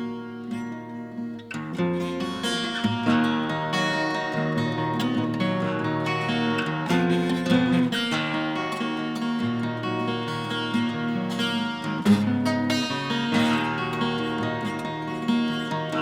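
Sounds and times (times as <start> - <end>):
twelve-string acoustic guitar: 0.0 - 16.0.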